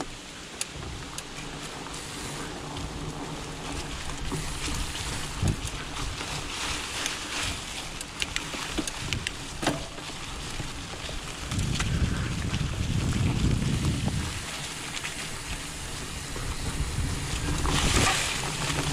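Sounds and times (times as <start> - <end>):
bike clicks and knocks: 0.0 - 18.9
bike tyre rumble on dirt: 0.0 - 18.9.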